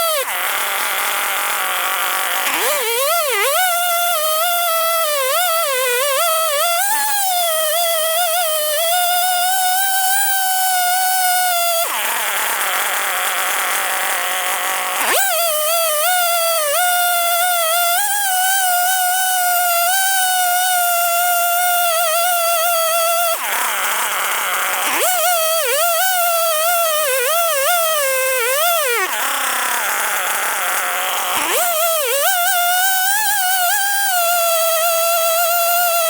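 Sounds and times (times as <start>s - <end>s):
chainsaw cutting log: 0.0s - 36.0s.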